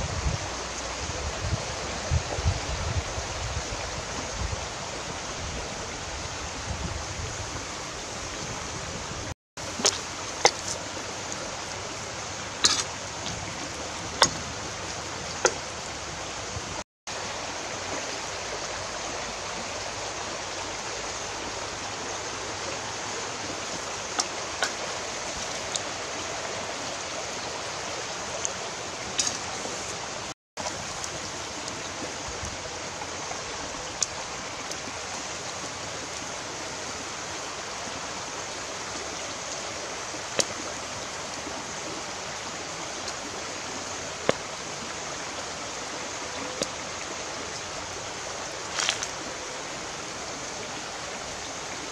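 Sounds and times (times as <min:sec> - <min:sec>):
steady rushing hiss: 0:00.0 - 0:51.9.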